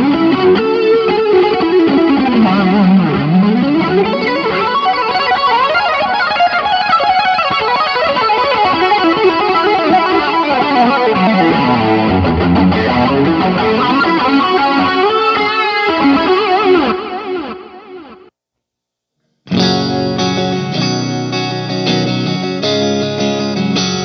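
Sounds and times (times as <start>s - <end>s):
distorted electric guitar: 0.0s - 18.3s, 19.2s - 24.0s.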